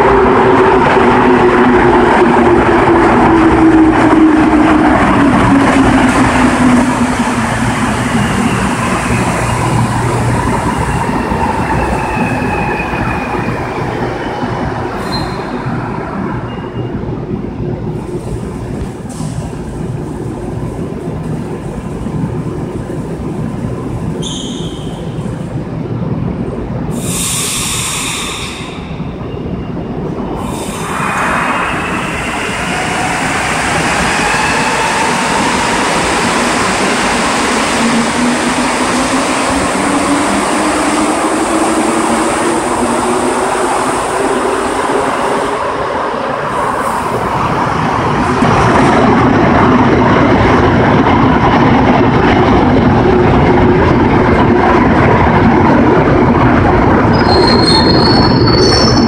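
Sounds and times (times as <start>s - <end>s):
metro train accelerating past: 0.0s - 59.0s.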